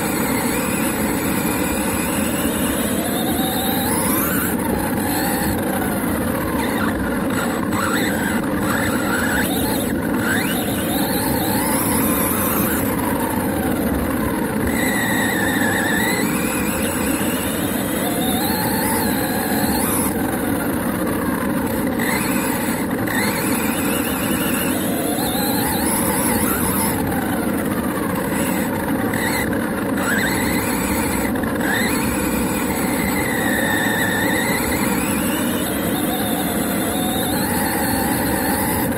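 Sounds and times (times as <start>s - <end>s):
electric motor and gear whine: 0.0s - 38.9s
toy truck chassis rattling: 0.0s - 38.9s.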